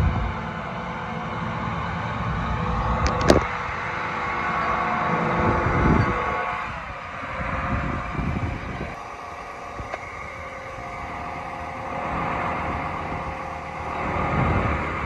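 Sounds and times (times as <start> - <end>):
wind buffeting microphone: 0.0 - 0.7, 1.3 - 15.0
tractor diesel engine running: 0.0 - 15.0.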